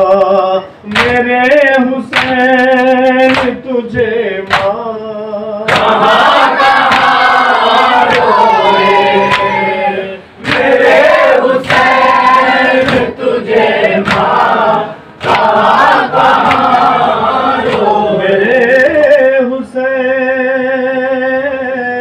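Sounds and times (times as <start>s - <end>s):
group of voices chanting a lament: 0.9s - 19.7s.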